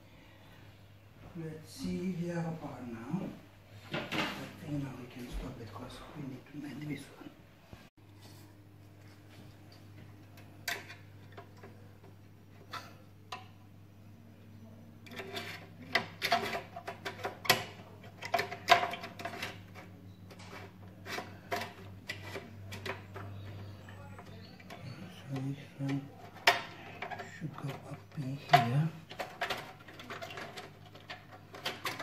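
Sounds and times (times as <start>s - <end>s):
low steady hum: 0.0s - 32.0s
clatter of oven parts and tools: 3.1s - 7.3s, 8.1s - 13.8s, 14.5s - 32.0s.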